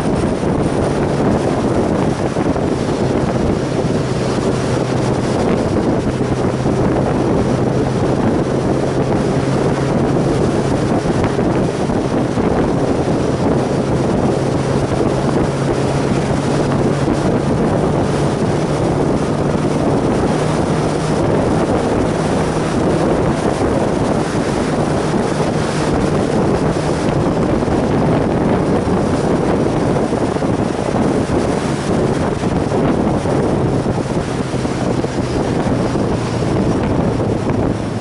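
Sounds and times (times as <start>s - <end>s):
motorcycle engine hum: 0.0s - 38.0s
wind noise on microphone: 0.0s - 38.0s.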